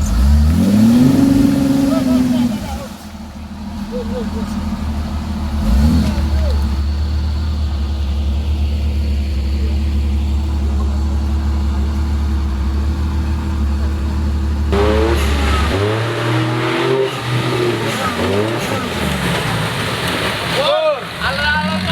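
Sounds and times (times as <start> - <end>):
vehicle engine running: 0.0 - 21.9.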